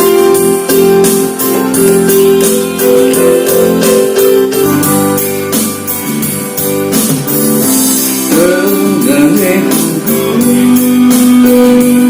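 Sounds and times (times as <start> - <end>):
guitar melody with bending notes: 0.0 - 12.0
held chords: 0.0 - 12.0
steady beat: 0.0 - 12.0.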